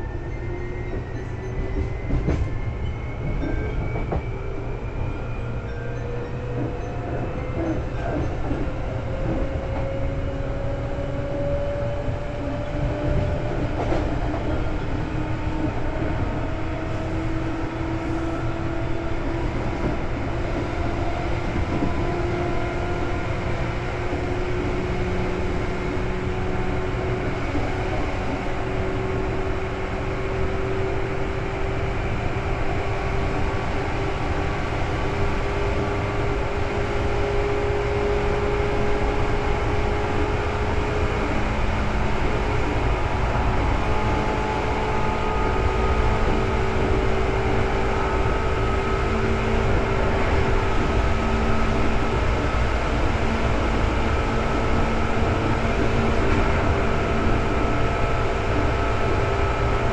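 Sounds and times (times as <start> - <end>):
electric train running: 0.0 - 59.9.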